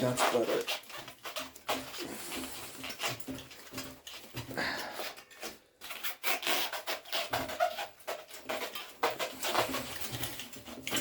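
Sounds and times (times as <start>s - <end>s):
scraping metal bicycle parts: 0.0s - 11.0s.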